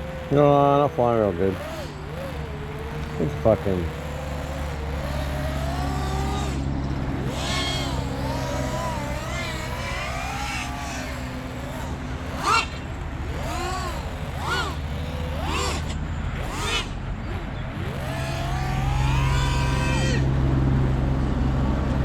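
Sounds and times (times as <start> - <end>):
drone motors whining: 0.0 - 22.0
steady low hum: 0.0 - 22.0.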